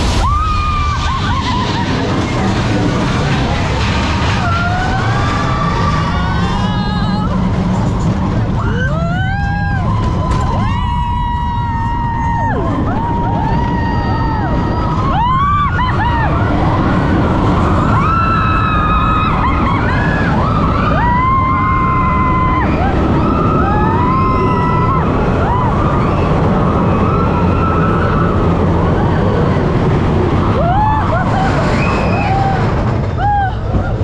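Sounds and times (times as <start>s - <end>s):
roller coaster rumbling: 0.0s - 34.0s.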